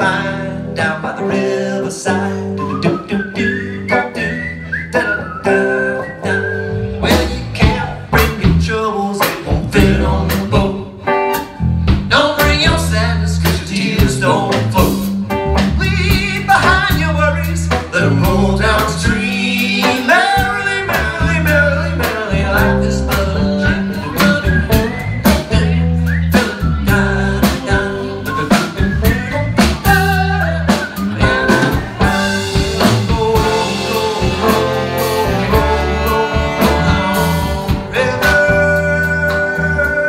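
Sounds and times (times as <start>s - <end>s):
live roots-rock band playing: 0.0s - 40.0s.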